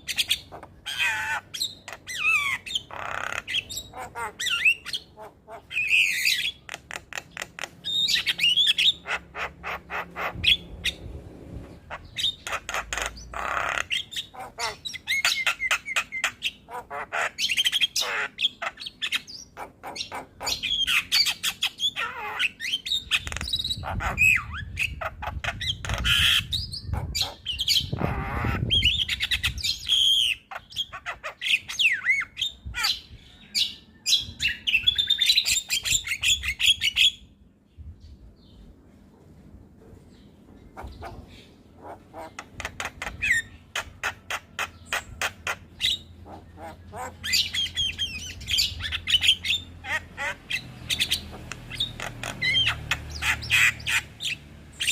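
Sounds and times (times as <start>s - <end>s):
myna bird singing: 0.0s - 39.0s, 39.9s - 54.9s.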